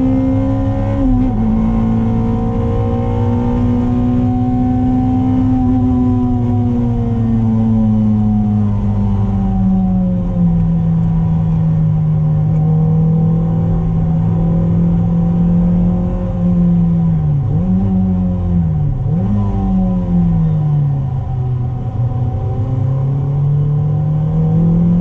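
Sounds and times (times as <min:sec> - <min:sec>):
car engine revving from inside cabin: 0:00.0 - 0:25.0.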